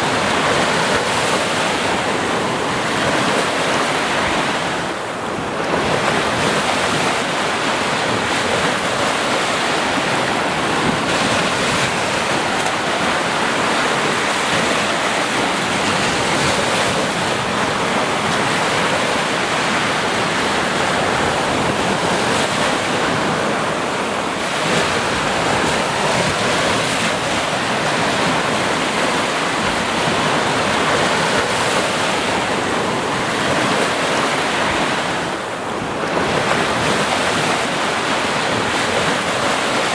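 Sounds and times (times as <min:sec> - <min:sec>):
sea waves washing onto beach: 0:00.0 - 0:39.9.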